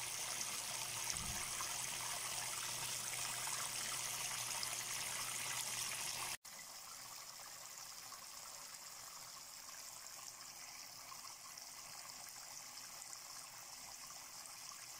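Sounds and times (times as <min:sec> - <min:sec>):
tabletop fountain water trickling: 0:00.0 - 0:14.9.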